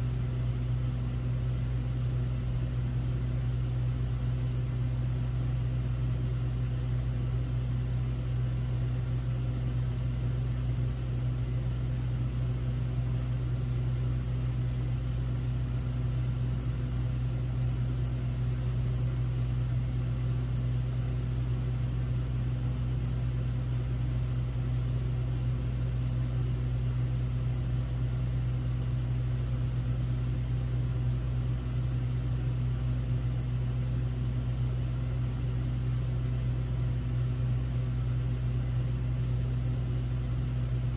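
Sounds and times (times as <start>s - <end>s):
air conditioner humming: 0.0s - 40.9s.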